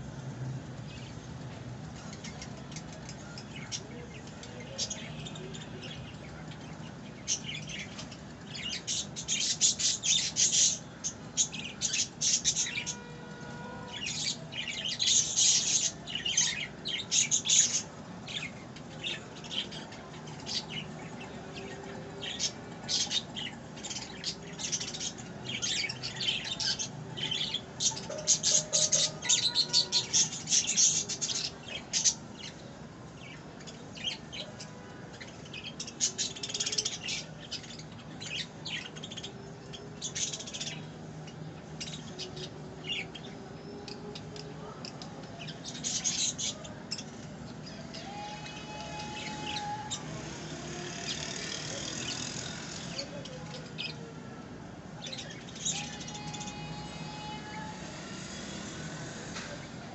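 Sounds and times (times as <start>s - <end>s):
budgerigars chirping and squawking: 2.0s - 13.1s, 13.8s - 54.0s, 55.0s - 58.0s.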